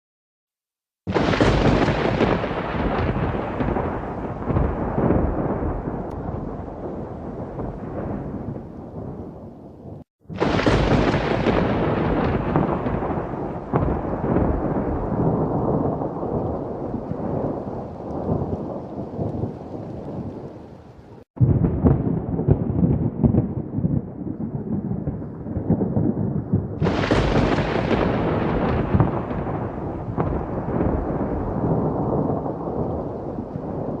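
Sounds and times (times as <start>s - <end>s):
rolling thunder: 1.1s - 20.7s, 21.4s - 34.0s
rain: 1.1s - 34.0s.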